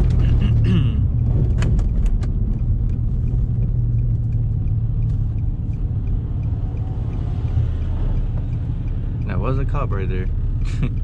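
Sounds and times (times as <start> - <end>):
car engine rumble inside cabin: 0.0 - 11.0
faint repeating tick: 2.0 - 11.0.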